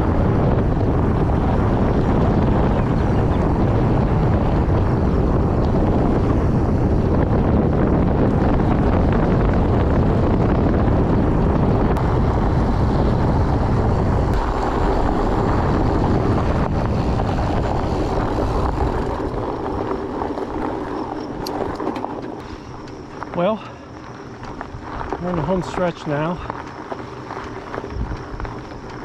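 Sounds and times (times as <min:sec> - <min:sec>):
bike tyres rolling on gravel: 0:00.0 - 0:29.0
wind buffeting microphone: 0:00.0 - 0:29.0.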